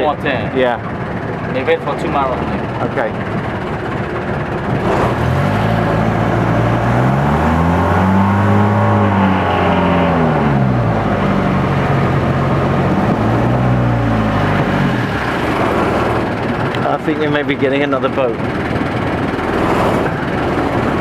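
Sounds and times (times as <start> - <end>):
boat engine revving: 0.0 - 21.0.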